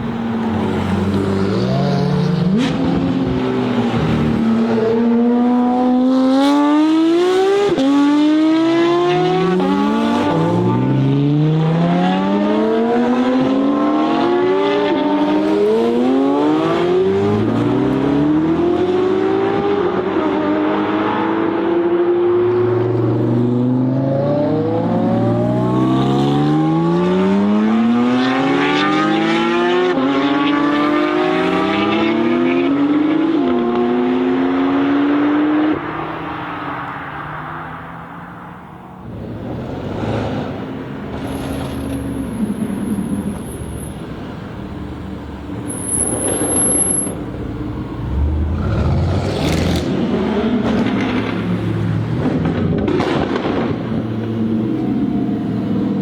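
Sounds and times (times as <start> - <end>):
car engines accelerating hard: 0.0 - 56.0.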